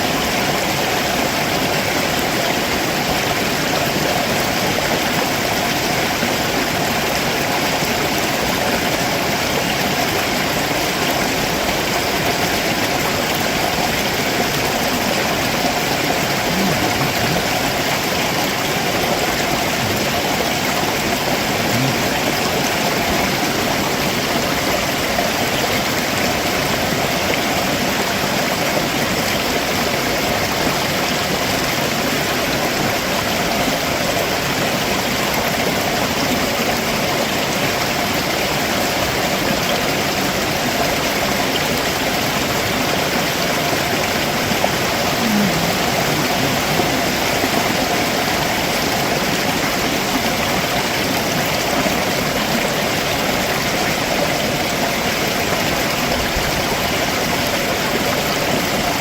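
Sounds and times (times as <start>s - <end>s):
water rushing over rocks: 0.0s - 59.0s.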